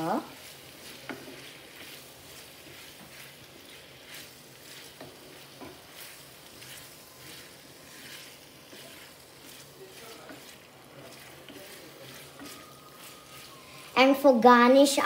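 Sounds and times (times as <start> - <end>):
faint sizzle: 0.0 - 15.0
wooden spatula scraping pan: 0.3 - 14.0.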